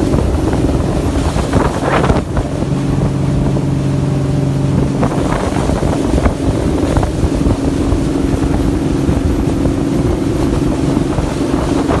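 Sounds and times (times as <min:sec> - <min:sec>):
engine running: 0:00.0 - 0:12.0
wind buffeting microphone: 0:00.0 - 0:12.0.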